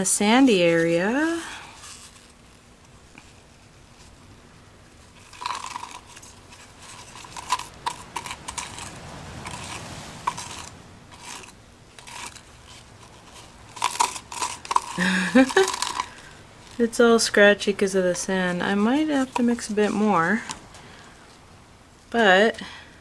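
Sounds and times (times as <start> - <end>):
gritty resin scraping: 0.0 - 4.2, 5.0 - 20.7.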